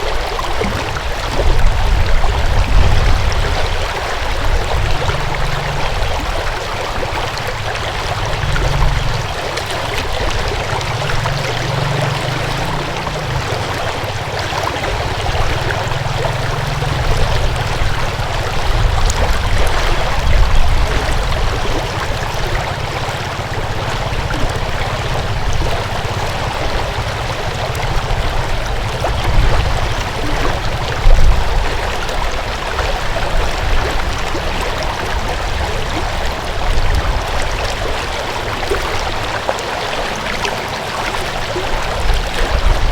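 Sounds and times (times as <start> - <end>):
stream water rushing: 0.0 - 42.9
low rumble: 1.3 - 38.0.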